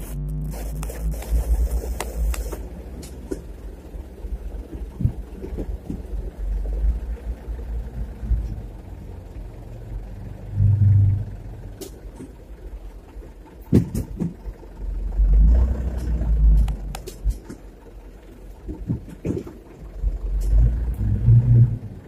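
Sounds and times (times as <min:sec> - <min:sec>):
diesel machinery rumble: 0:00.0 - 0:22.0.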